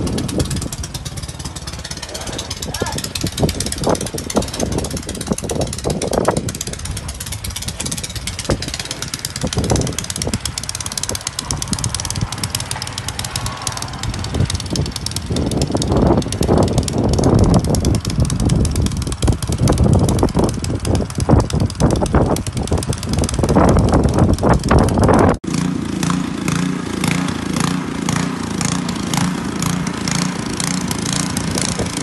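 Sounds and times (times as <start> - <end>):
snow blower engine running: 0.0 - 32.0.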